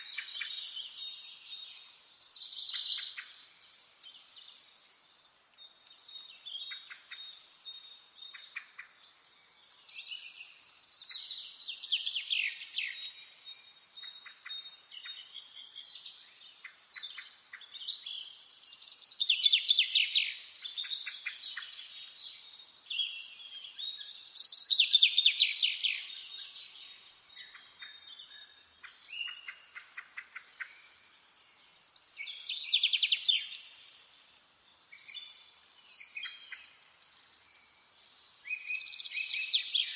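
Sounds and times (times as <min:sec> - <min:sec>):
birds chirping softly: 0:00.0 - 0:39.9
chaffinch singing: 0:00.0 - 0:39.9.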